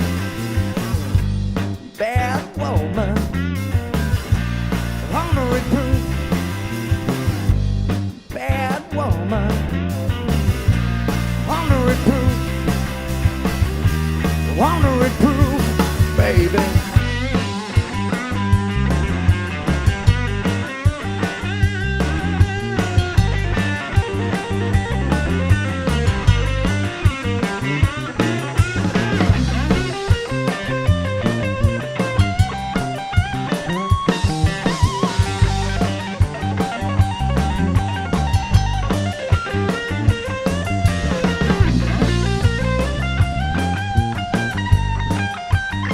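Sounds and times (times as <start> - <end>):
bass: 0.0 - 45.9
drum kit beat: 0.0 - 45.9
electric guitar lead: 0.0 - 45.9.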